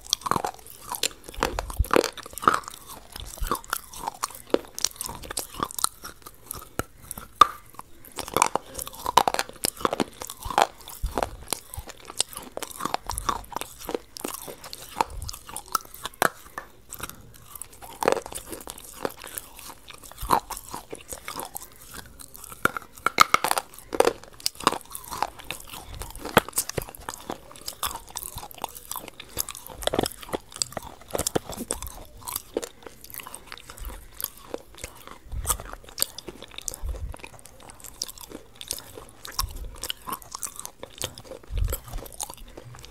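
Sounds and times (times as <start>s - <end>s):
crunchy biting and chewing: 0.0s - 42.9s
mouth sounds: 0.0s - 42.9s.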